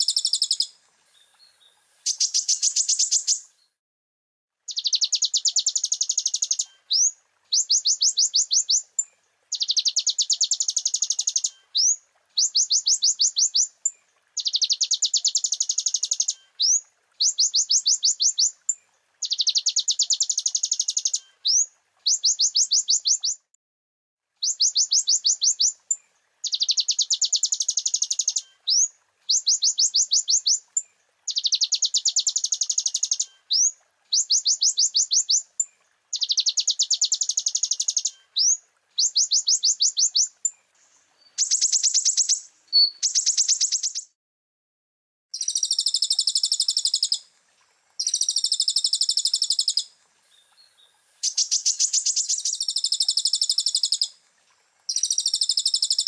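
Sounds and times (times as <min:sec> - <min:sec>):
bird singing fast trills: 0:00.0 - 0:03.5, 0:04.7 - 0:23.5, 0:24.4 - 0:30.6, 0:31.3 - 0:35.5, 0:36.1 - 0:40.6, 0:41.2 - 0:44.1, 0:45.4 - 0:47.2, 0:48.0 - 0:54.1, 0:54.9 - 0:56.0.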